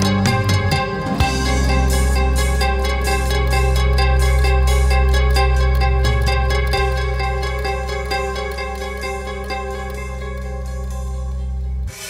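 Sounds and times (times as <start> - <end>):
held bass note: 0.0 - 11.9.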